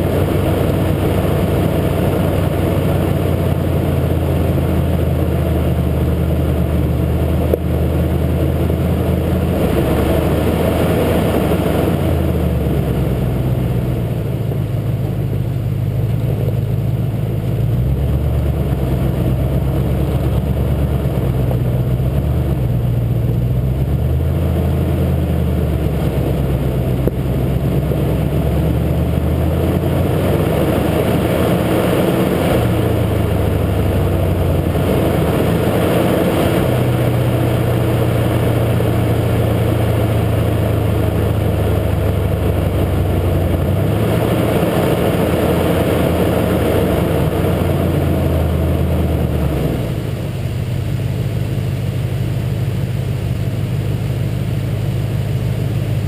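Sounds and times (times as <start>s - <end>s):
truck engine running at low revs: 0.0s - 56.0s.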